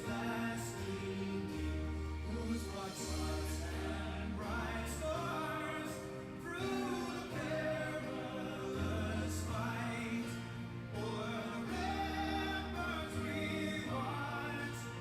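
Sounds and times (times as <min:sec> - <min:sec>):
operatic singing over bass notes: 0:00.0 - 0:15.0.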